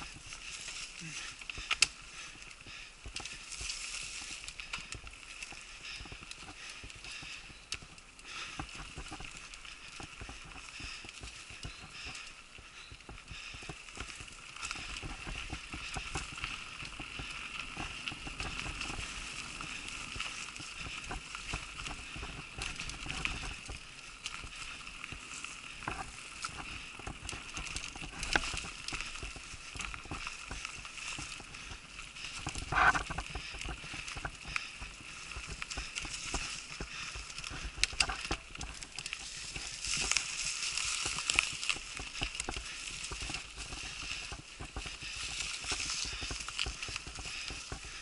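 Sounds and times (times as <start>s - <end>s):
bike rattling over bumps: 0.0s - 48.0s
bike tyres rolling on dirt: 0.0s - 48.0s.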